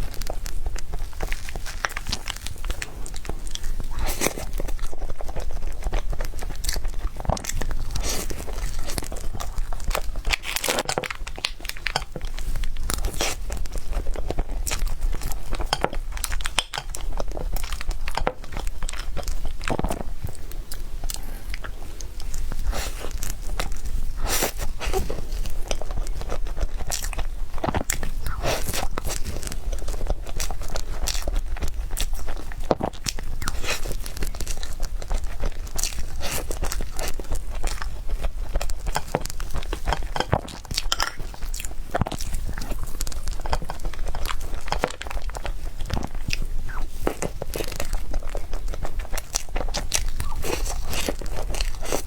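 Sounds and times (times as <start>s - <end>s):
biting and chewing cake: 0.0s - 52.0s.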